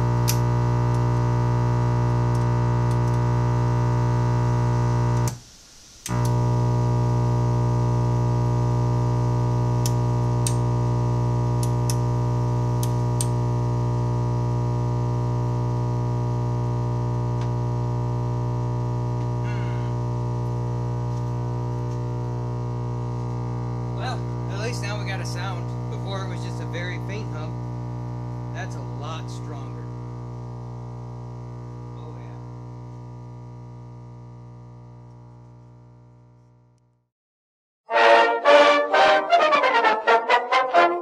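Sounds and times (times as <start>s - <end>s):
electrical hum and buzz: 0.0s - 37.0s.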